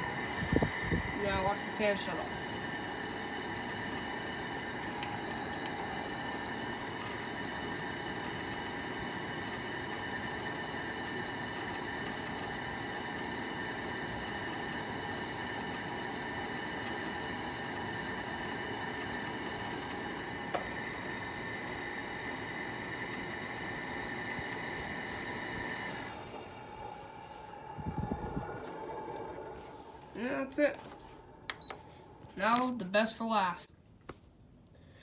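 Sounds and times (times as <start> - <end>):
air conditioner whir: 0.0 - 35.0.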